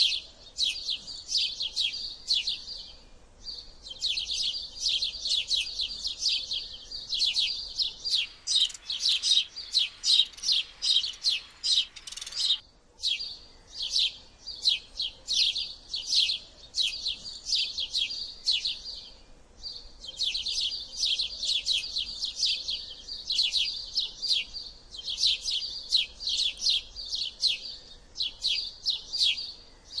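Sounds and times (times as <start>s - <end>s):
sparrows chirping: 0.0s - 30.0s.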